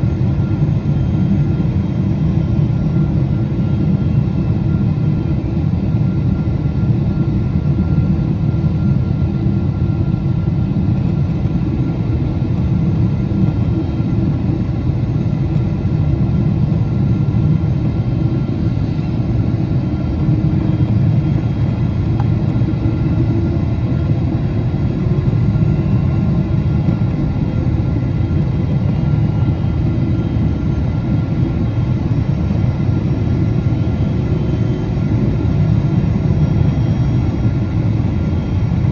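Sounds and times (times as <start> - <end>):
airplane engine and airflow drone: 0.0 - 38.9
faint steady whine: 0.0 - 38.9.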